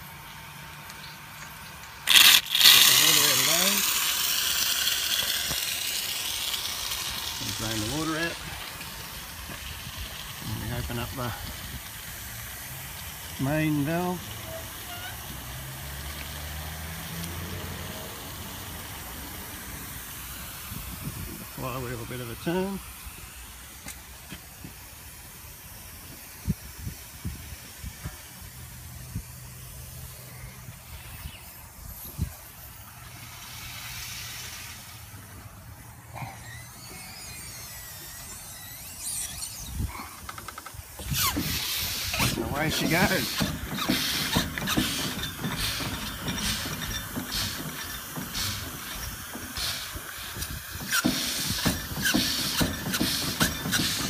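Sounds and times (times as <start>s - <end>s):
steam engine hissing: 0.0s - 54.0s.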